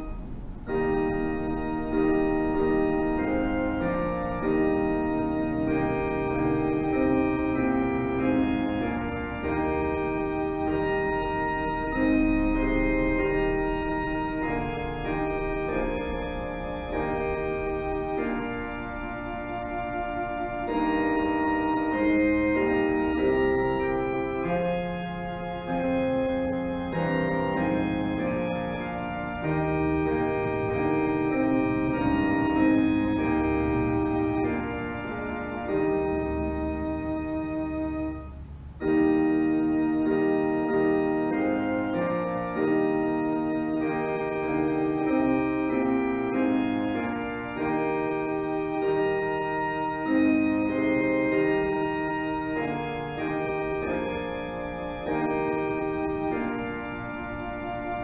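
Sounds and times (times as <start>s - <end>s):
organ playing held chords: 0.0s - 58.0s.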